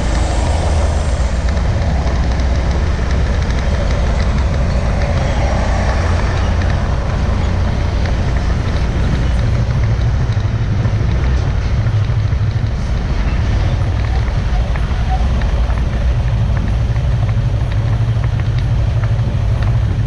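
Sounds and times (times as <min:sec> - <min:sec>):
diesel engine idling: 0:00.0 - 0:20.0
heavy trucks passing: 0:00.0 - 0:20.0.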